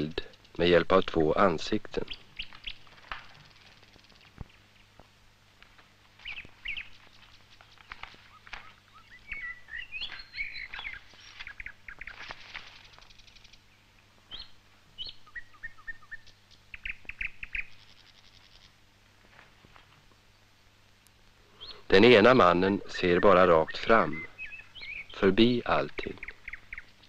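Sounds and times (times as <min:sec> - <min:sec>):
birdsong chirps and trills: 0:00.0 - 0:05.0, 0:06.1 - 0:18.8, 0:21.4 - 0:27.0
faint low hum: 0:00.0 - 0:27.0.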